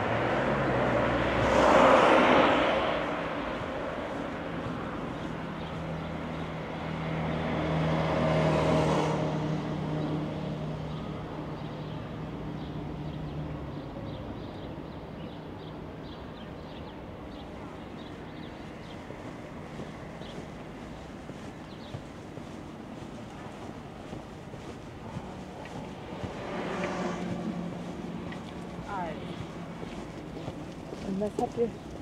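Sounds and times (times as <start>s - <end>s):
vehicle engine hum: 0.0s - 12.0s, 17.3s - 32.0s
faint footsteps on pavement: 0.1s - 32.0s.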